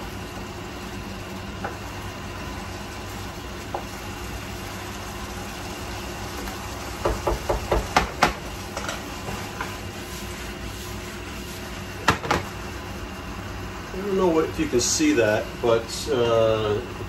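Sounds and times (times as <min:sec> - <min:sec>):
range hood fan humming: 0:00.0 - 0:17.0.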